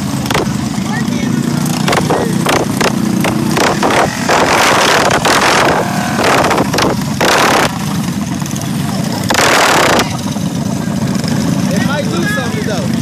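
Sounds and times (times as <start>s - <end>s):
mini bike engines running: 0.0s - 13.0s.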